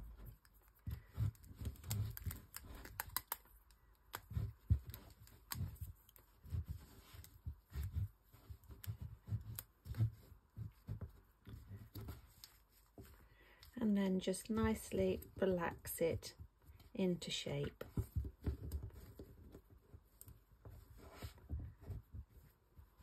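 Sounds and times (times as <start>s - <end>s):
hands handling a doll: 0.0s - 23.0s.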